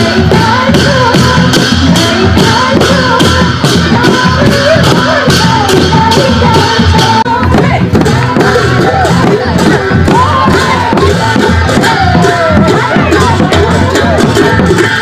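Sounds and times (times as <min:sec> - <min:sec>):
barrel drum beating: 0:00.0 - 0:15.0
voices singing: 0:00.0 - 0:15.0.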